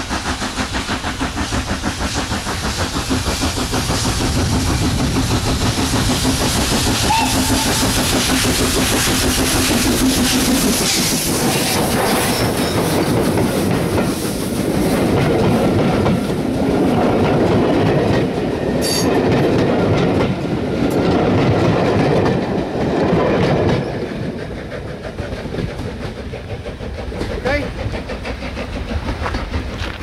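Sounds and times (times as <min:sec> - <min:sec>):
coach wheels on rails: 0:00.0 - 0:30.0
steam locomotive passing: 0:00.0 - 0:30.0.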